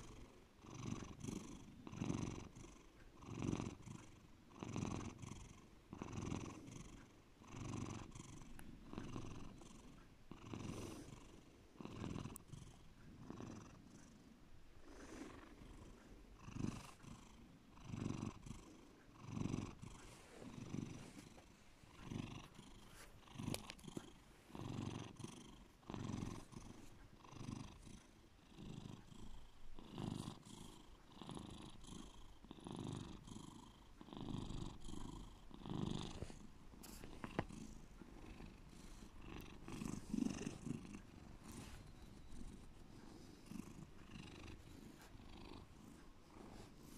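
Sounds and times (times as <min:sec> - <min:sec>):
cat purring deeply: 0:00.0 - 0:14.2, 0:14.8 - 0:46.9.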